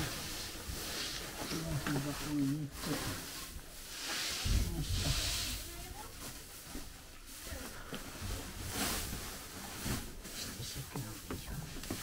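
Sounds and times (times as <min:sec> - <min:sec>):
straw pouring with rustling hiss: 0:00.0 - 0:11.1.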